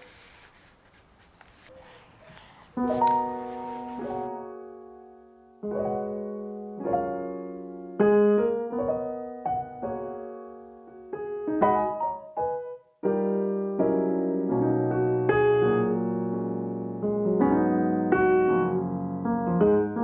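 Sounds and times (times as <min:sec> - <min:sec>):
piano music: 0:01.7 - 0:20.0.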